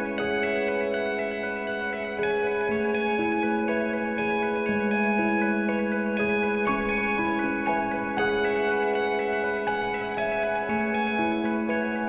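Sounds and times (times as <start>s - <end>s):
ambient instrumental music: 0.0s - 12.0s.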